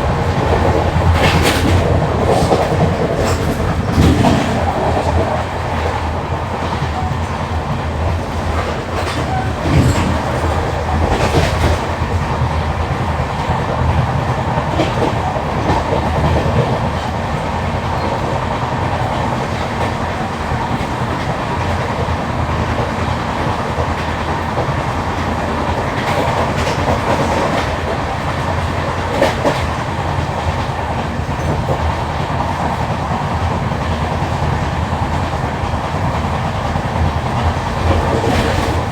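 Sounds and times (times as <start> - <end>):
rhythmic thudding of flat wheel: 0.0 - 38.9
rumble and clatter of train wheels: 0.0 - 38.9.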